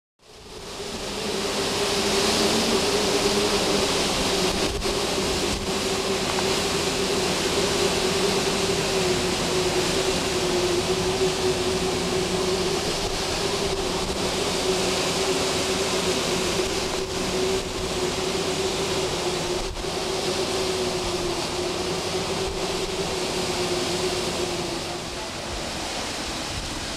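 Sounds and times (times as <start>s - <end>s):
steady hum-like tone: 0.2s - 26.9s
strong wind blowing: 0.2s - 26.9s.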